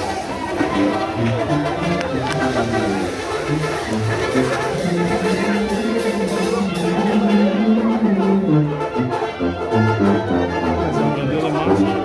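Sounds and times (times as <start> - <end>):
music with low notes and melody: 0.0 - 12.0.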